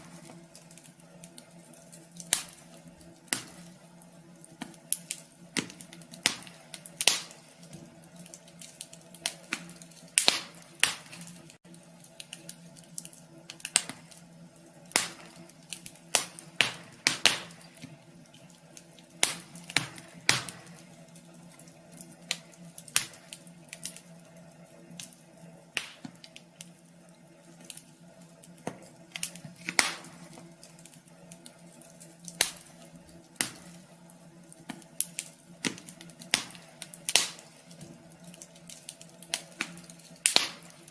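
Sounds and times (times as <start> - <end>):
faint steady hum: 0.0 - 40.9
wood fire crackling in a stove: 0.0 - 40.9.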